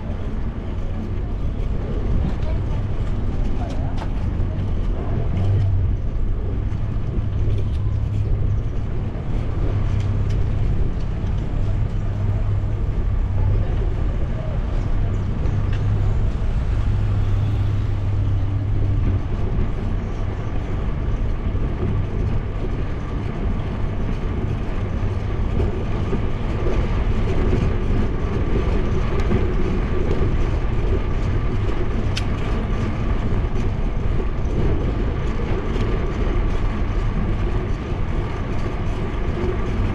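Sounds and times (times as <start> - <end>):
low rumble of bike ride: 0.0 - 39.9
wind on microphone: 0.0 - 39.9.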